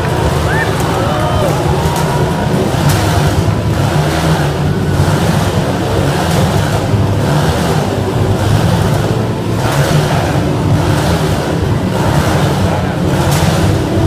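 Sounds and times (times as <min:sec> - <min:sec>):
motorcycle engines running: 0:00.0 - 0:14.0
rushing noise: 0:00.0 - 0:14.0.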